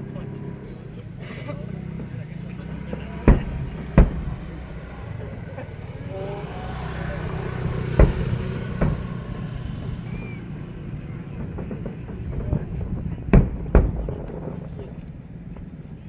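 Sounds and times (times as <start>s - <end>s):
fireworks shells bursting: 0.0s - 16.0s
low steady rumble: 0.0s - 16.0s.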